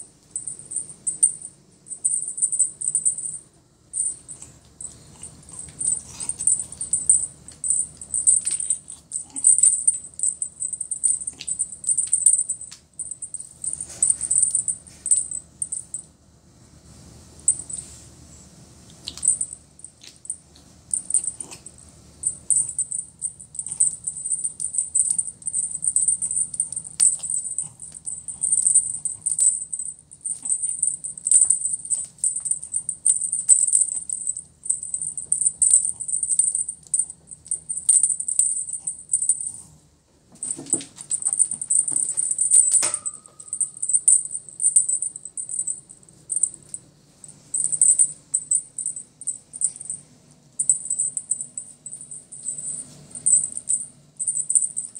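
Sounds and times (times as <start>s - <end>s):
cat toy jingling: 0.0s - 16.0s, 19.0s - 39.7s, 40.4s - 50.0s, 50.6s - 54.9s.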